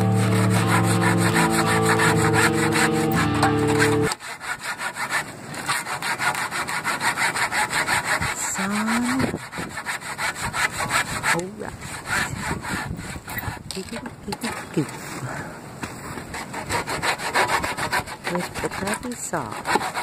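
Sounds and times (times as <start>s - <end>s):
handsaw cutting wood: 0.0s - 14.8s, 16.1s - 20.0s.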